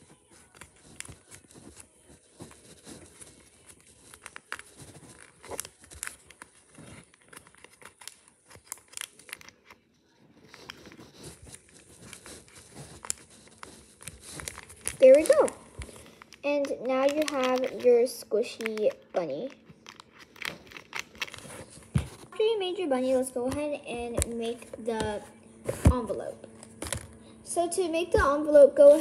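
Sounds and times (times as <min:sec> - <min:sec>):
paper and plastic crinkling: 0:00.0 - 0:27.2.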